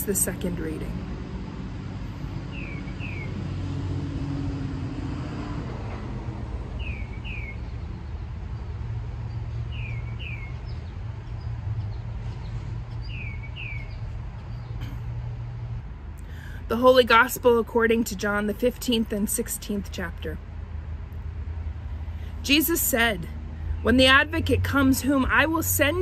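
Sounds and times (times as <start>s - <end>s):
vehicle rumble: 0.0s - 26.0s.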